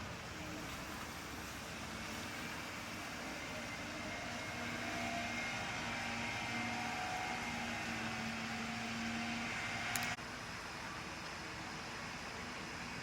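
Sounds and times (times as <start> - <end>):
motor vehicle running: 0.0 - 13.0.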